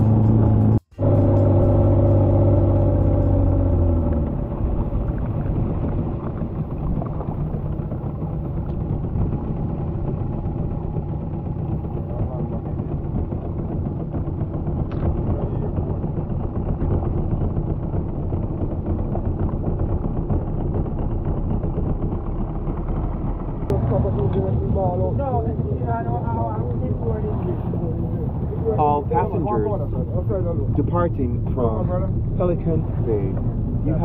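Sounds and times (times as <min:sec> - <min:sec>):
outboard motor droning: 0:00.0 - 0:34.0.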